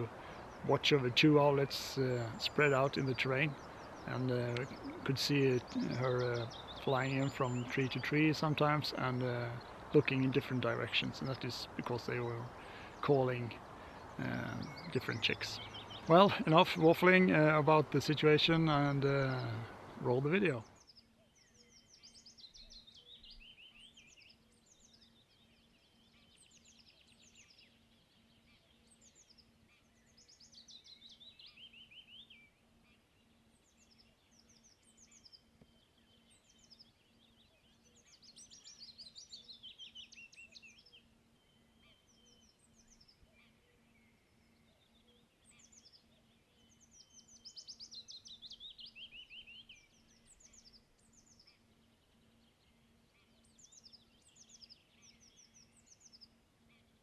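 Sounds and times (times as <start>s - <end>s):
small birds chirping: 0.0s - 57.0s
songbird song: 0.0s - 57.0s.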